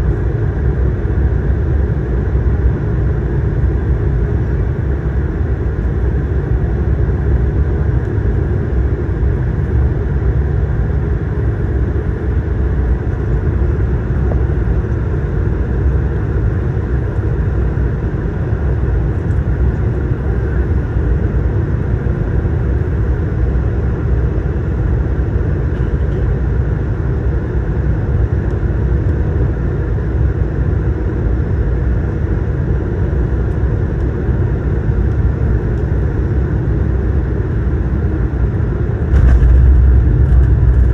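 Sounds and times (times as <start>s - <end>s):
aircraft cabin rumble: 0.0s - 30.0s, 33.2s - 40.9s.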